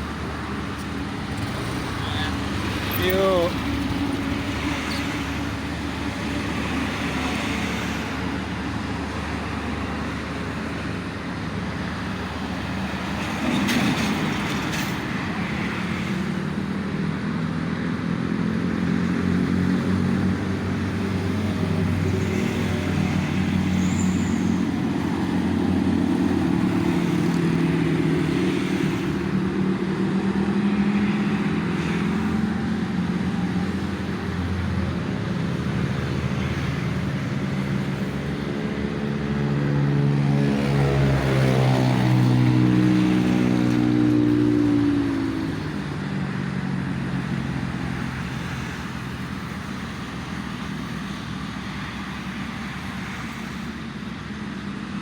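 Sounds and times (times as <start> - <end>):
cars and trucks passing: 0.0 - 55.0.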